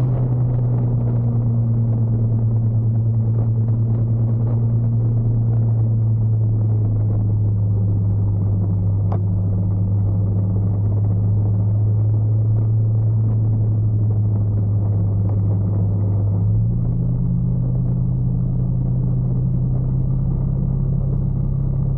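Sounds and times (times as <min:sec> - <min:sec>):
motorcycle engine drone: 0:00.0 - 0:21.9.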